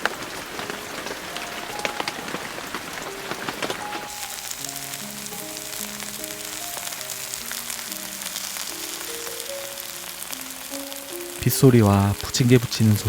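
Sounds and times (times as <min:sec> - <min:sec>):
batter sizzling in oil: 0:00.0 - 0:13.0
soft background music: 0:00.0 - 0:13.0.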